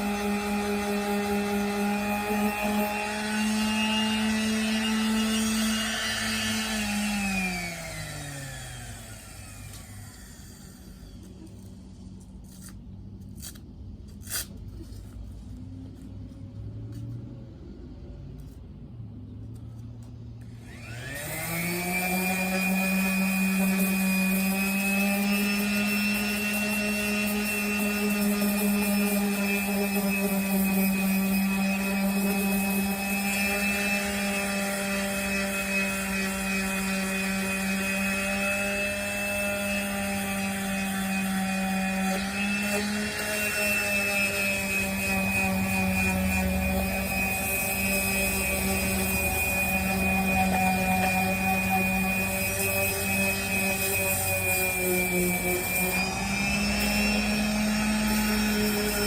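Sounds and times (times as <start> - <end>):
power sander motor whine: 0.0 - 12.1, 20.4 - 59.0.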